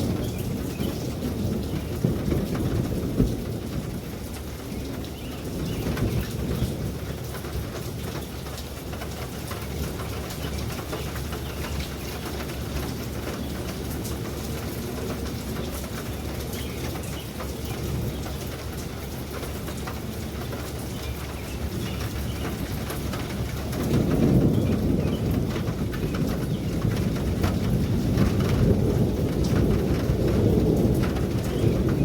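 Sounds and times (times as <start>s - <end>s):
rain drops striking a surface: 0.0s - 32.0s
thunder rumbling: 0.0s - 32.0s.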